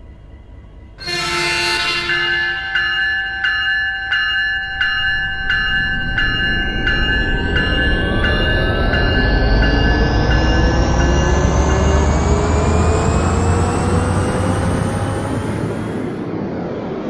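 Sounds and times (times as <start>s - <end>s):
railroad crossing bell ringing: 0.0s - 15.9s
train rumble: 0.0s - 17.0s.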